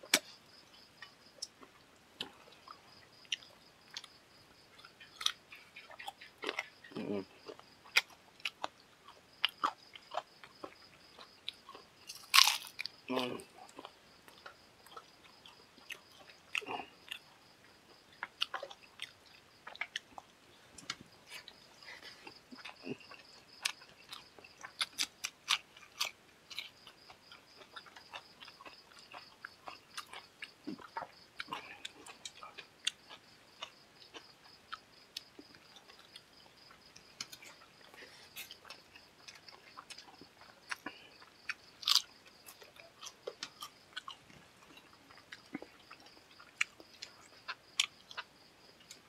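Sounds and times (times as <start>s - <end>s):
person chewing and smacking: 0.0s - 49.0s
crunching bites: 4.8s - 17.3s, 17.9s - 49.0s.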